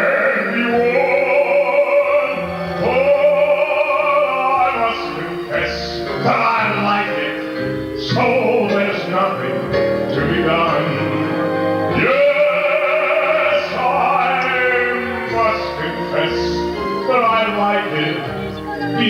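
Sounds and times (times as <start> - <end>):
instrumental accompaniment: 0.0 - 19.0
man singing into microphone: 0.0 - 19.0.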